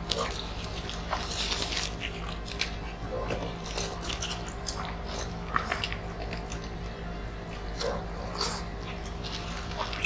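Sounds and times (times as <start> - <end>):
people chewing with wet smacks: 0.0 - 10.0.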